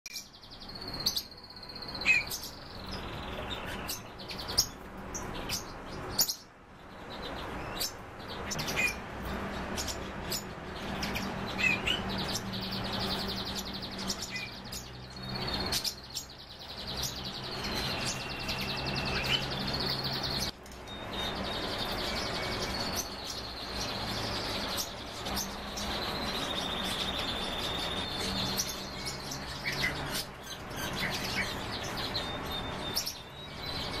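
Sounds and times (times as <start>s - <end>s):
cage birds chirping and calling: 0.1s - 34.0s.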